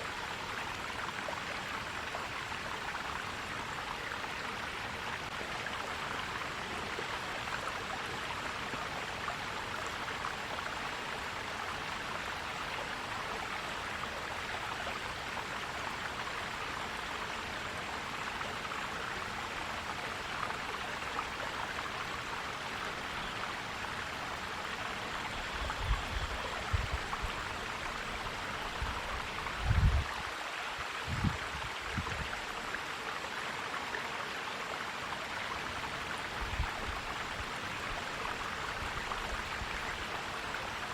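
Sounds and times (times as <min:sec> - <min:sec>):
stream gurgling over rocks: 0:00.0 - 0:40.9.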